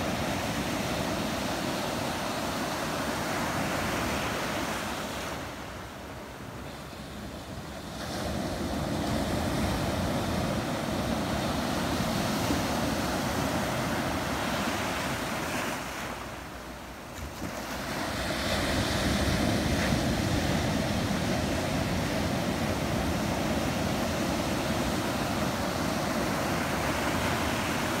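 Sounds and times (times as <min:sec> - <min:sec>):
ocean surf on a beach: 0:00.0 - 0:28.0.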